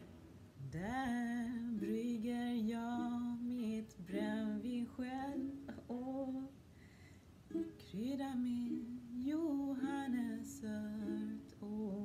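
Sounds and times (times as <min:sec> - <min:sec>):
ukulele: 0:00.0 - 0:06.7, 0:07.3 - 0:12.0
woman singing: 0:00.6 - 0:06.6, 0:07.5 - 0:12.0.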